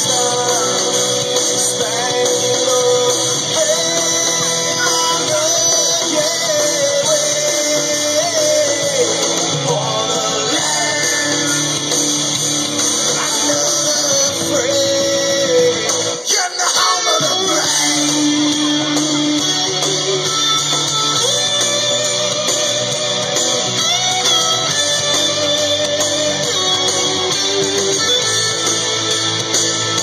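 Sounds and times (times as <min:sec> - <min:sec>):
rock music with singing: 0:00.0 - 0:30.0.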